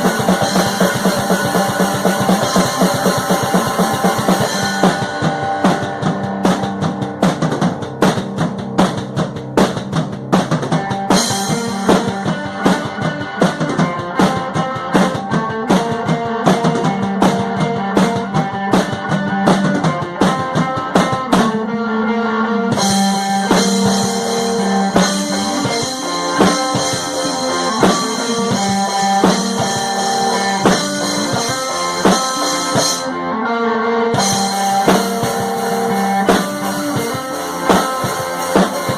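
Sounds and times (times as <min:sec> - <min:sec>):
instrumental rock music: 0:00.0 - 0:38.9.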